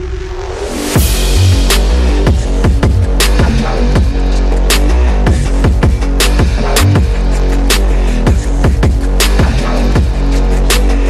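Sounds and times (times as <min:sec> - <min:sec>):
electronic drum and bass music: 0:00.0 - 0:11.0.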